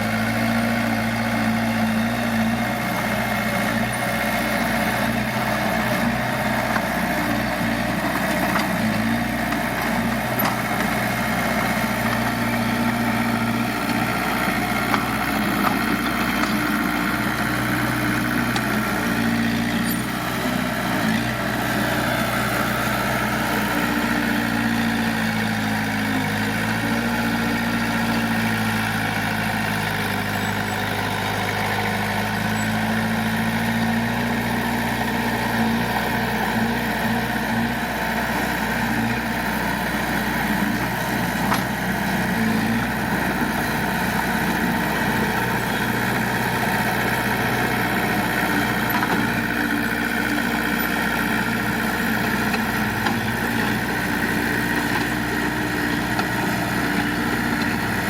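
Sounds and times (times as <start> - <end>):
diesel engine running at low revs: 0.0 - 58.0.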